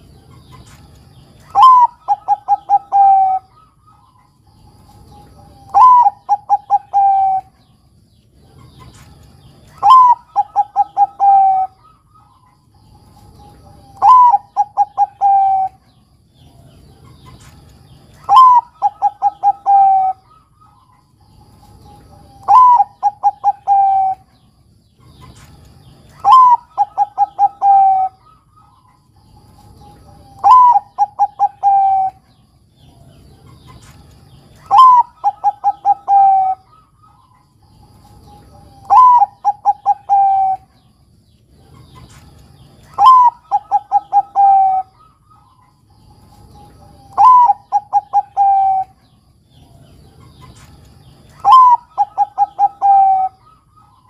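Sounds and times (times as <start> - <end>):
dove cooing: 0.0 - 7.8, 8.4 - 54.0.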